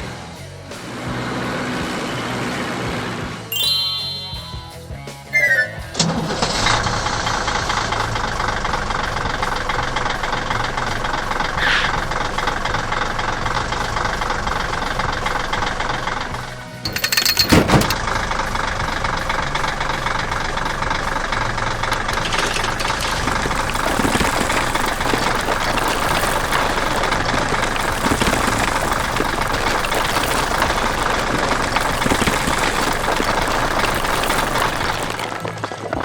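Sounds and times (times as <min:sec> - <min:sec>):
heavy machine engine running: 0:05.9 - 0:36.0
rapid knocking rattle: 0:07.0 - 0:35.9.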